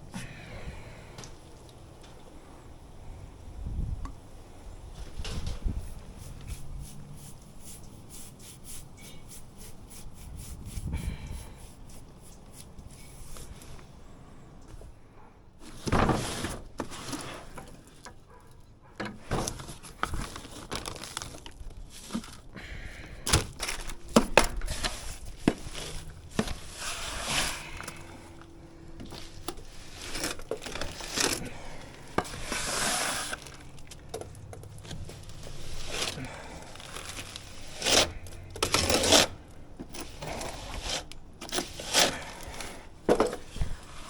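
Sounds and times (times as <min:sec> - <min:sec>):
rustling and crinkling: 0:04.0 - 0:44.0.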